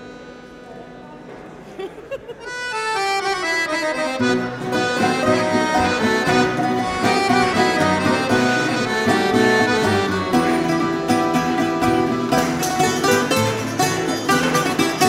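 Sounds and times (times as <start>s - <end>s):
accordion melody: 0.0s - 1.4s, 2.3s - 15.0s
plucked strings: 2.5s - 15.0s.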